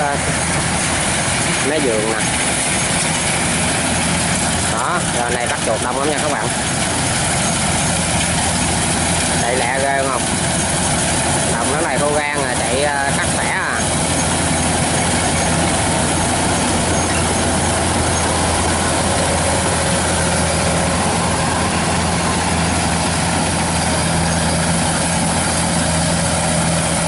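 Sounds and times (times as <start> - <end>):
combine harvester running: 0.0 - 27.0.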